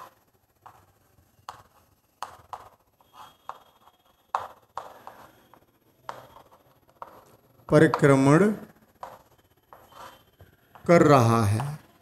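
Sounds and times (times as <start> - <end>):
chalk writing on chalkboard: 0.0 - 12.0.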